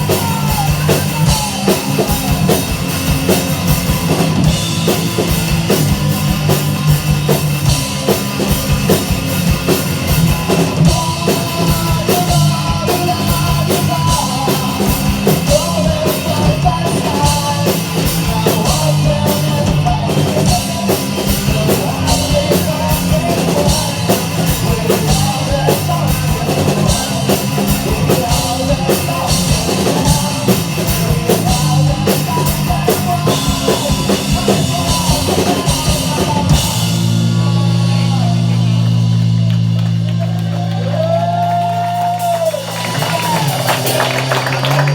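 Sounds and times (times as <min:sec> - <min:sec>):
loud rock music: 0:00.0 - 0:44.9.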